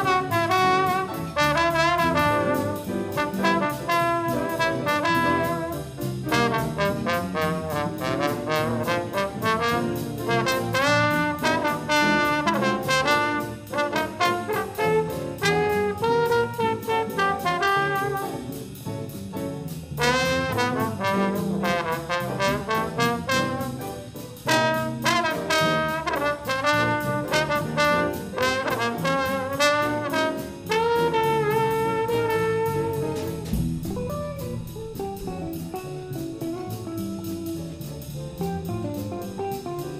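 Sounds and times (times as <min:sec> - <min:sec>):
trombone soloing in jazz runs: 0:00.0 - 0:18.7, 0:19.7 - 0:39.9
jazz combo of piano bass drums: 0:00.0 - 0:39.9.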